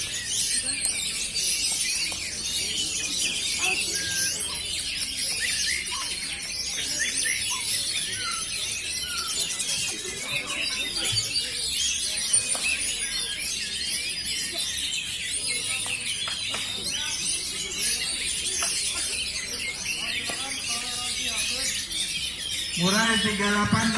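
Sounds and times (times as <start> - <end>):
chorus of songbirds singing: 0.0 - 23.9.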